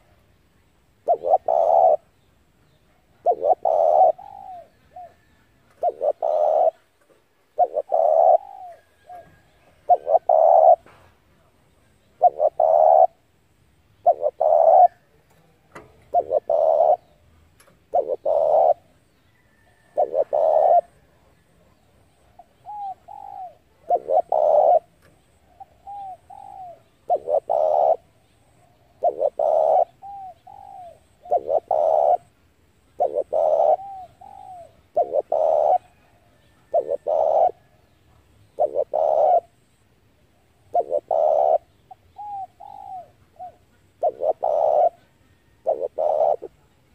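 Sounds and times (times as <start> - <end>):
dove cooing: 1.0 - 2.2, 2.8 - 13.3, 14.0 - 15.2, 15.8 - 46.9.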